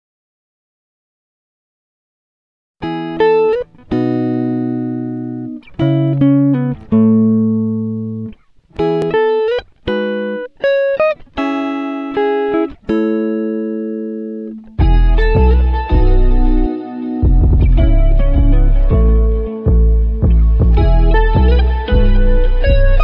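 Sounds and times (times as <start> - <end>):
picked string music: 2.8 - 23.0.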